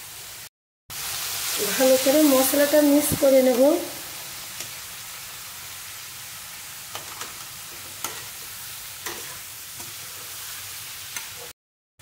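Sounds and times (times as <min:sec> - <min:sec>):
beans sizzling in oil: 0:00.0 - 0:11.6.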